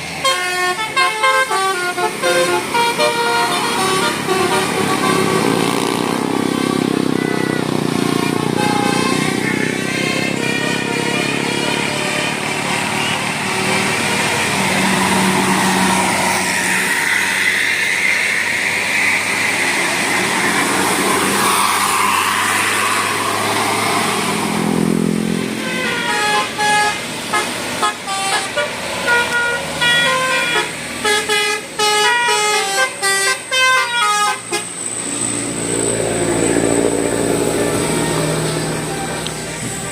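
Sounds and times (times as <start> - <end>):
loud steady rush: 0.0 - 31.9, 32.6 - 39.9
musical bus horn melody: 0.1 - 18.1, 24.2 - 39.9.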